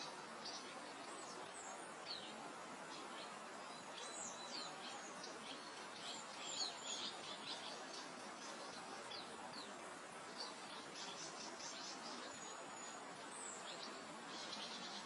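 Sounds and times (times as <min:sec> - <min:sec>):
small birds chirping: 0:00.0 - 0:15.0
wind hissing over grass: 0:00.0 - 0:15.0.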